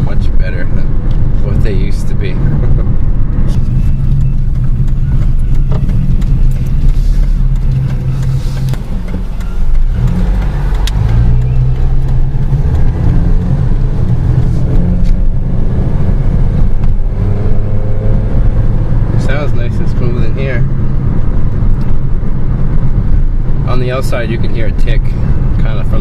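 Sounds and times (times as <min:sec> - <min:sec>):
car engine running: 0:00.0 - 0:26.0
road noise: 0:00.0 - 0:26.0.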